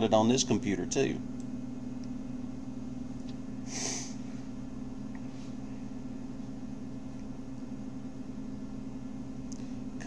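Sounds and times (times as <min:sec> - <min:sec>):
low hum with faint hiss: 0:00.0 - 0:10.0.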